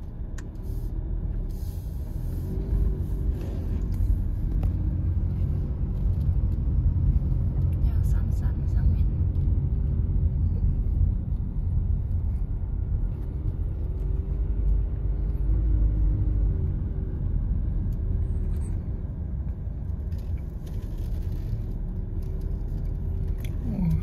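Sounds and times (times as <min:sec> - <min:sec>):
car engine and tyre noise: 0:00.0 - 0:24.0.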